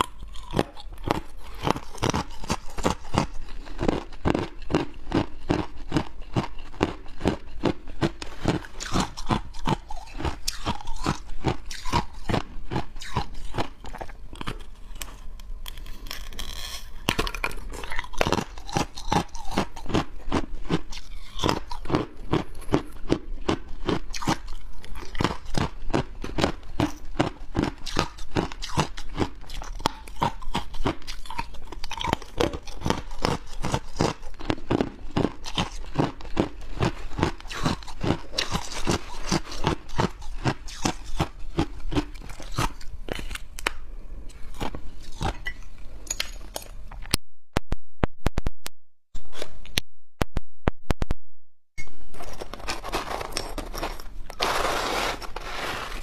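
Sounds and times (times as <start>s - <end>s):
person crunching ice: 0.0s - 43.8s, 52.2s - 56.0s.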